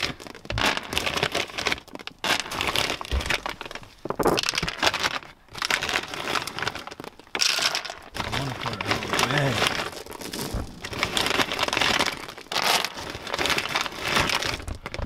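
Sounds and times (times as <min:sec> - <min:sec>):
dry kibble pouring and scattering: 0:00.0 - 0:15.0
plastic bag crinkling: 0:00.0 - 0:15.0.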